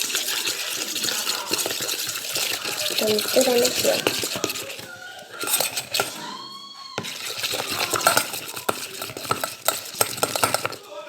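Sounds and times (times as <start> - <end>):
utensil scraping container: 0.0 - 11.0.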